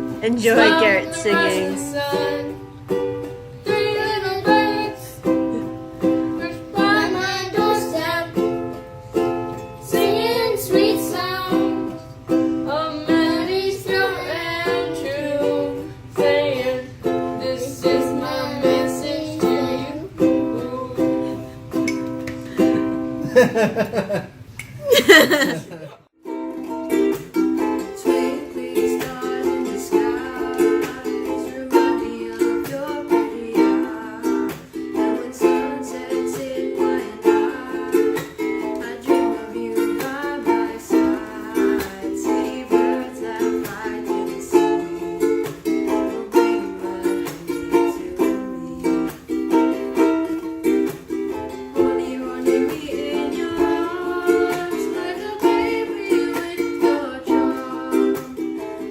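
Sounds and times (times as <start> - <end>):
ukulele strumming: 0.0 - 24.0, 24.6 - 58.9.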